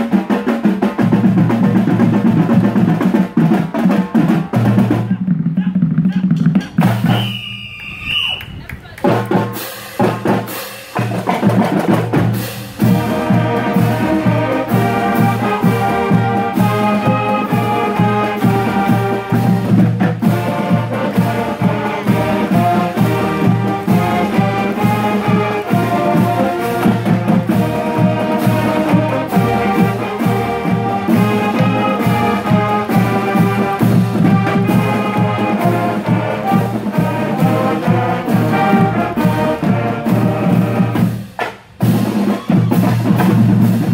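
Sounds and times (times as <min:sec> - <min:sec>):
steady drum beat: 0:00.0 - 0:07.5, 0:08.5 - 0:43.9
marching band playing: 0:00.0 - 0:43.9.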